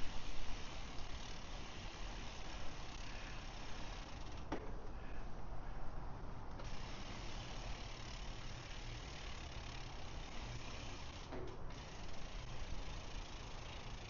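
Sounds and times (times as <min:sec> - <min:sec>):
bicycle freewheel ticking: 0:00.0 - 0:04.5, 0:06.6 - 0:14.0.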